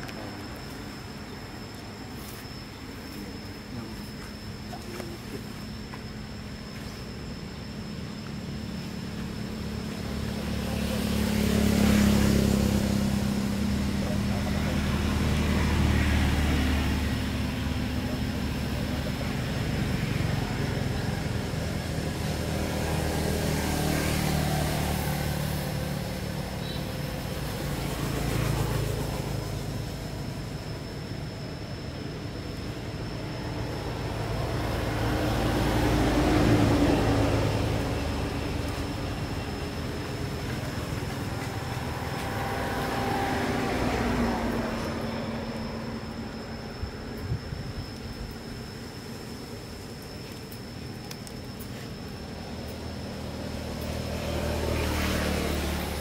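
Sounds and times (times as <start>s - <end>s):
thin high whine: 0.0s - 56.0s
vehicle engine humming: 0.0s - 56.0s.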